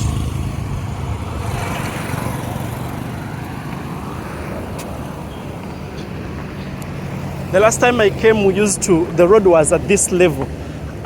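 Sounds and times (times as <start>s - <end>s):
passing traffic: 0.0s - 11.0s
vehicle engine running: 0.0s - 11.0s.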